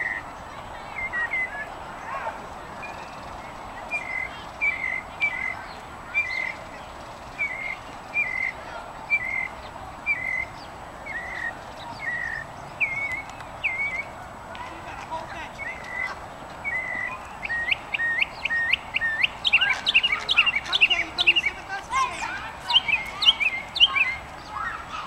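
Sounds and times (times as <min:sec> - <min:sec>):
songbird whistled phrases: 0:00.9 - 0:01.7, 0:02.8 - 0:06.6, 0:07.3 - 0:14.1, 0:15.6 - 0:25.0.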